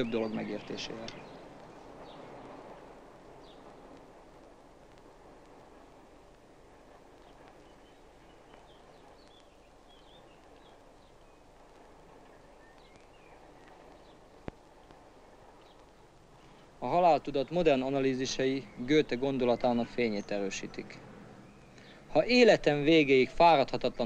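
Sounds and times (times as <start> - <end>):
distant bird chirps: 0.0 - 4.5, 5.3 - 24.0.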